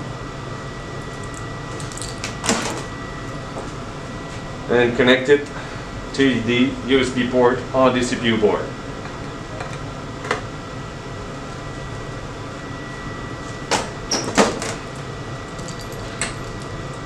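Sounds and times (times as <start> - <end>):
steady room hum: 0.0 - 17.0.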